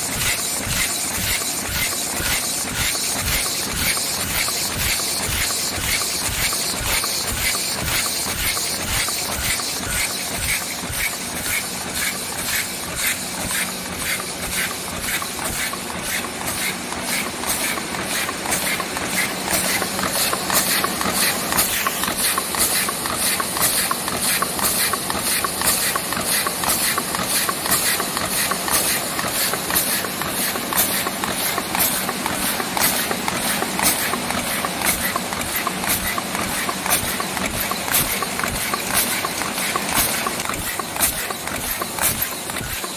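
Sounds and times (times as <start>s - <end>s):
machine mechanical clatter: 0.0s - 42.9s.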